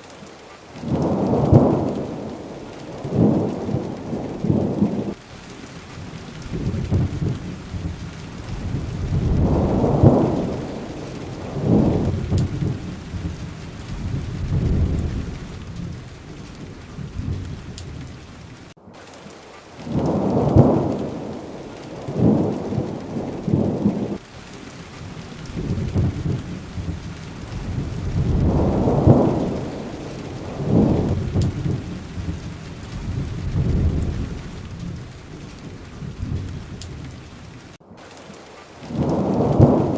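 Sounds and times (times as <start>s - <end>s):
heavy rain: 0.0s - 39.9s
thunder rumbling: 0.8s - 18.8s, 19.8s - 37.8s, 38.8s - 39.9s.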